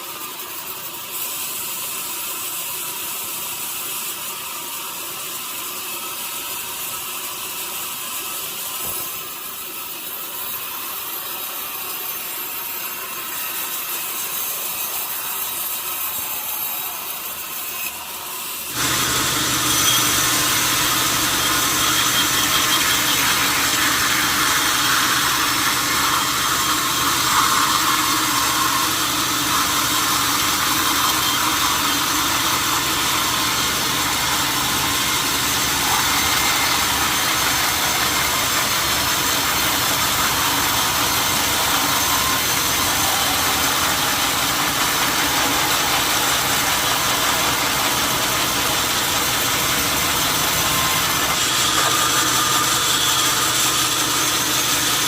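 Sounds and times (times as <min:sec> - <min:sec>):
sawmill machinery hiss: 0:00.0 - 0:55.0.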